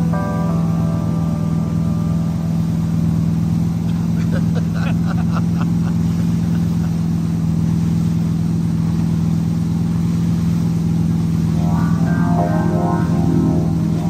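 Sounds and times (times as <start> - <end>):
boat engine running: 0.0 - 14.0
rush of boat wake: 0.0 - 14.0.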